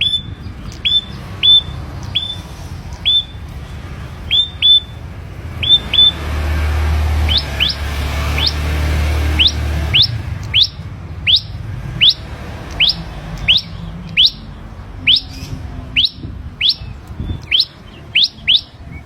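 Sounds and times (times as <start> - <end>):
bird whistling rising notes: 0.0 - 2.4, 3.0 - 3.4, 4.3 - 5.0, 5.6 - 6.3, 7.1 - 8.7, 9.3 - 19.0.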